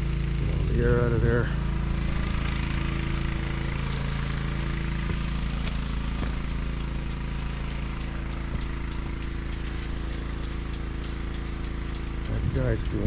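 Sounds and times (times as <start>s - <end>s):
small water pump engine running: 0.0s - 13.0s
light regular ticking: 0.1s - 13.0s.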